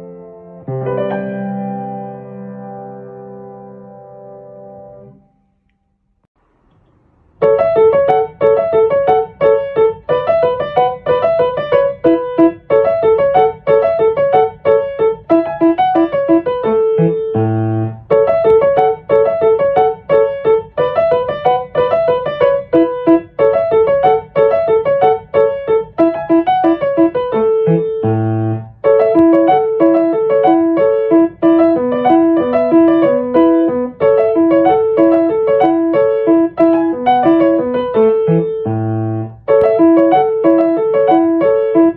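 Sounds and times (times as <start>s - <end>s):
fast repeating piano melody: 0.0s - 5.2s, 7.4s - 41.9s.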